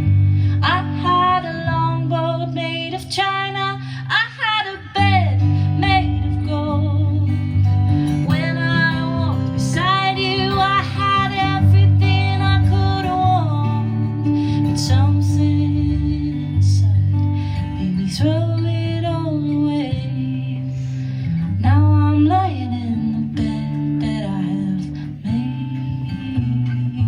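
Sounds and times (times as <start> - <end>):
acoustic guitar: 0.0 - 27.0
woman singing: 0.0 - 27.0.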